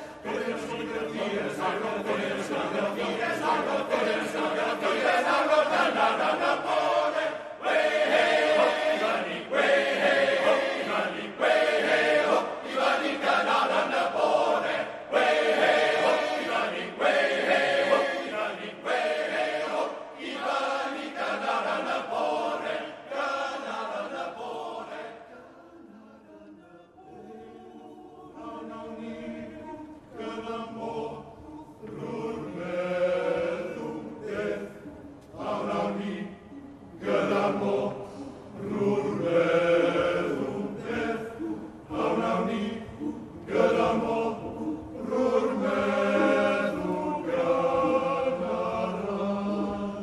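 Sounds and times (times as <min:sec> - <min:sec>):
male choir singing in harmony: 0:00.0 - 0:50.0.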